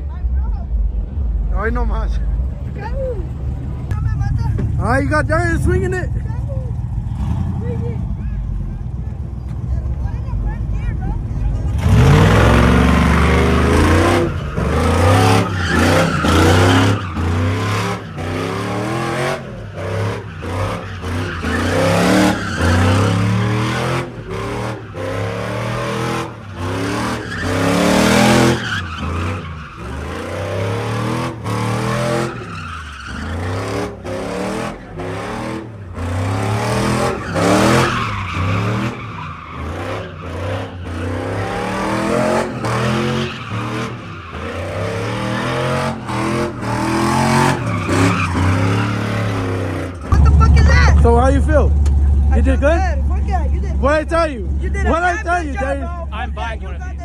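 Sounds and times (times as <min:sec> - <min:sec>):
truck engine revving: 0:00.0 - 0:56.6
tires squealing: 0:01.6 - 0:57.0.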